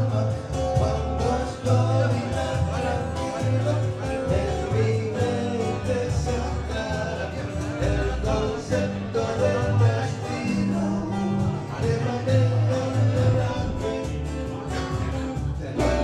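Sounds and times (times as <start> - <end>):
electric bass: 0.0 - 16.0
strummed acoustic guitar: 0.0 - 16.0.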